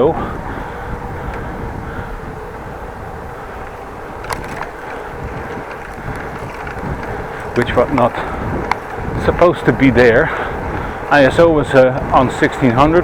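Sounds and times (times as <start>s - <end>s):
bicycle road rumble: 0.0s - 13.0s
wind: 0.0s - 13.0s.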